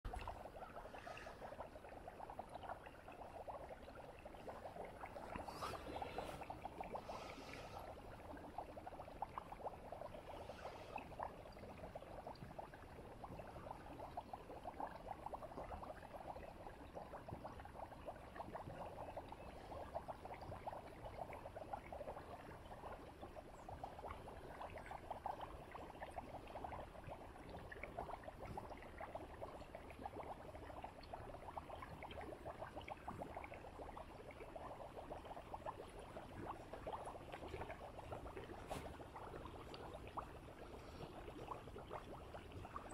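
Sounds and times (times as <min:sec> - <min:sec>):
gas bubbles popping in water: 0:00.0 - 0:42.9.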